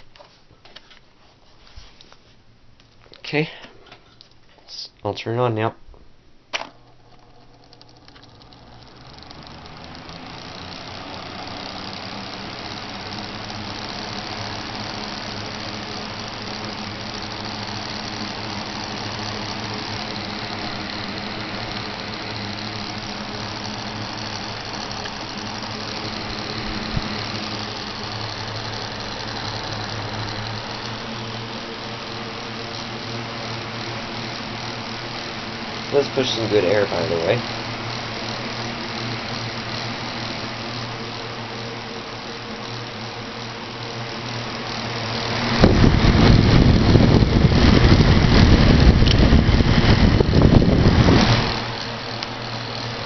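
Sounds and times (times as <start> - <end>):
box fan motor hum and air whoosh: 6.5 - 53.0.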